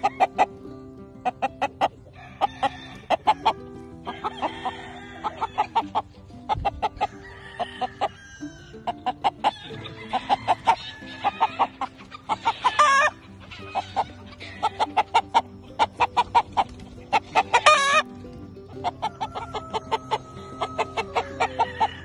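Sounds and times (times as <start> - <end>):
background music with held notes: 0.0 - 22.0
chickens clucking: 0.0 - 22.0.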